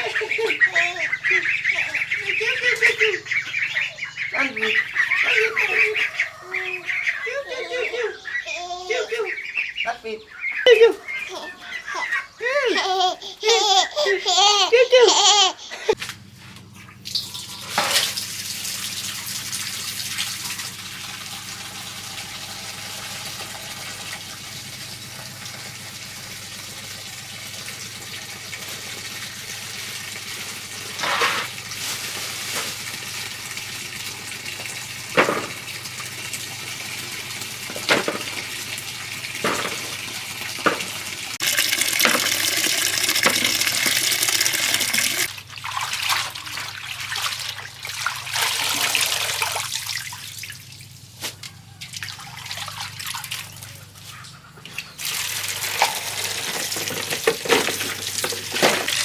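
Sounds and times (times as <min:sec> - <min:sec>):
water running: 0:00.0 - 0:15.9, 0:16.8 - 0:59.0.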